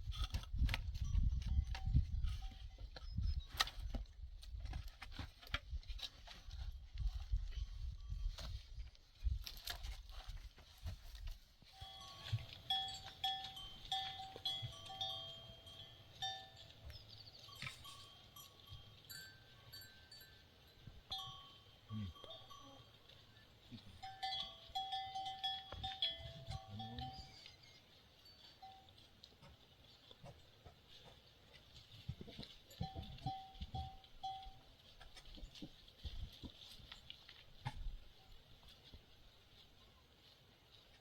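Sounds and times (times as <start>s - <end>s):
livestock neck bells clinking: 0.1s - 4.1s, 6.0s - 8.8s, 11.7s - 38.9s.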